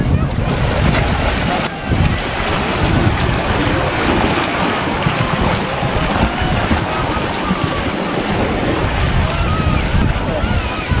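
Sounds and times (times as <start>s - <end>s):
water churning with broken ice: 0.0s - 11.0s
wind buffeting microphone: 0.0s - 11.0s.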